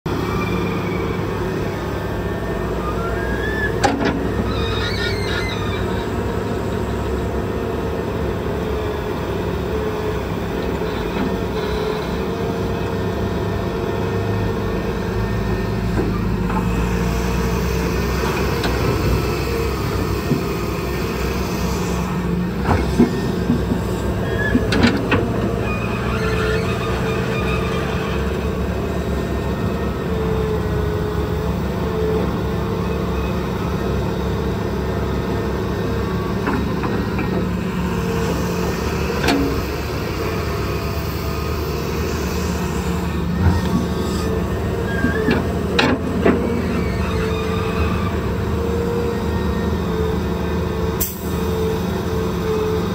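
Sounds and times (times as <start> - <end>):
excavator diesel engine running: 0.1 - 52.9.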